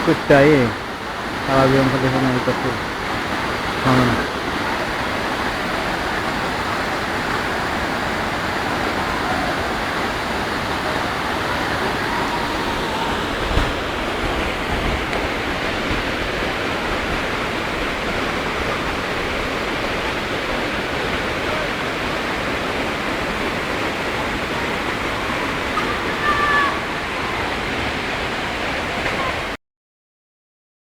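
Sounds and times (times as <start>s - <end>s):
waterfall rushing: 0.0s - 29.6s.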